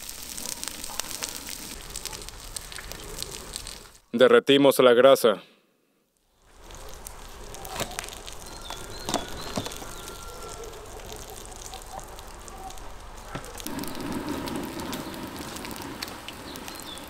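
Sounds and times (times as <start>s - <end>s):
fat sizzling and crackling in a pan: 0.0s - 4.1s, 6.2s - 17.0s.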